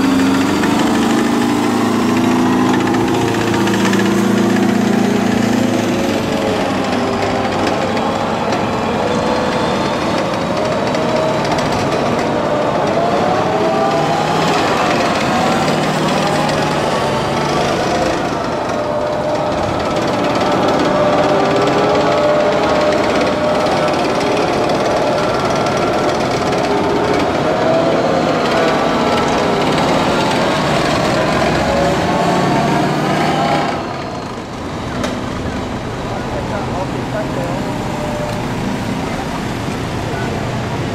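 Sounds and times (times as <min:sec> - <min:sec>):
whining tone: 0:00.0 - 0:40.5
diesel engines running: 0:00.0 - 0:40.9
steel tracks clattering on road: 0:00.0 - 0:40.9.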